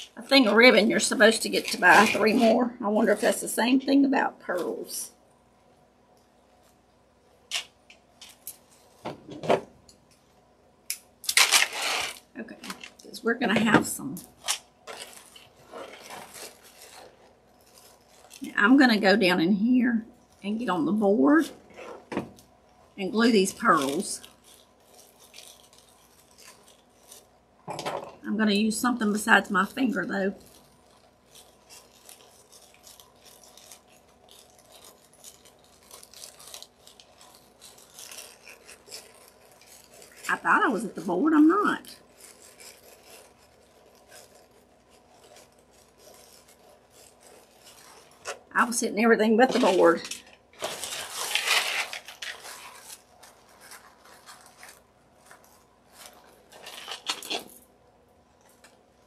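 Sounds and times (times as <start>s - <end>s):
paper filters rustling: 0.0s - 5.1s, 11.4s - 19.4s, 20.3s - 57.6s.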